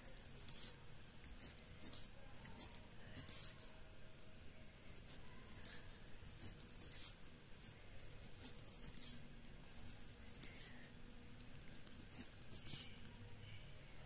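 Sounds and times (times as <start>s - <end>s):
pen scratching on paper: 0.0s - 3.7s, 4.7s - 13.1s.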